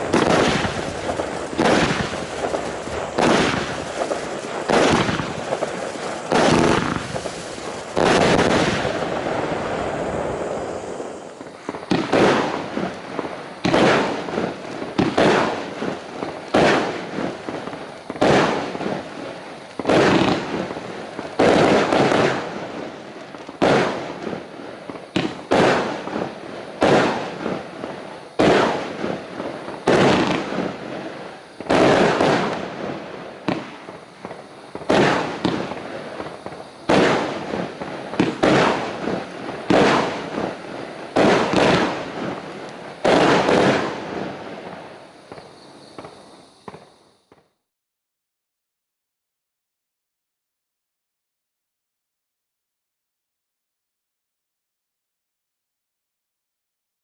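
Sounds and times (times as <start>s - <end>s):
fireworks cake firing bangs: 0.0s - 47.5s.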